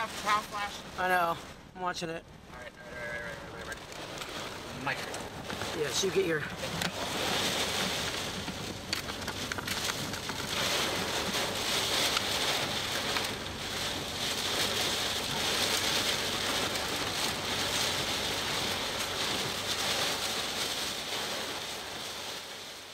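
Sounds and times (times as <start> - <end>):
rain pelting a vehicle: 0.0 - 22.9.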